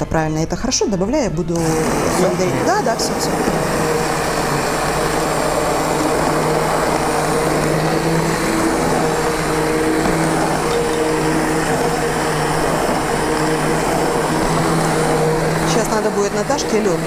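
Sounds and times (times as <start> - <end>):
immersion blender running: 1.6 - 17.0.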